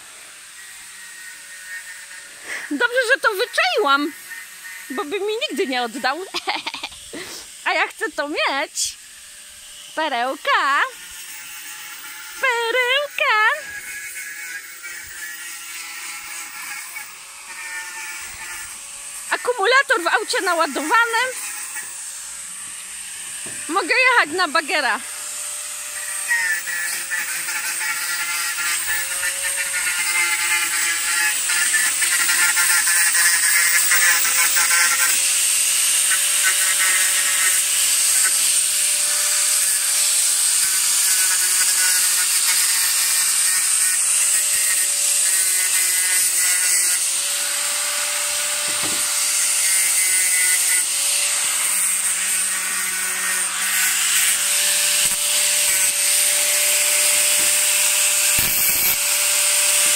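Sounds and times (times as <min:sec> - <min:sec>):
angle grinder grinding metal: 0:00.0 - 0:59.9.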